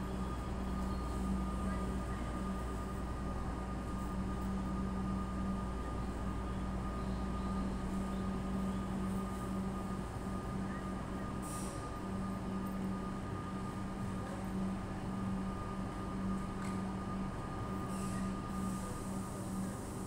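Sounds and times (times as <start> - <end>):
train humming and rumbling: 0.0 - 20.0.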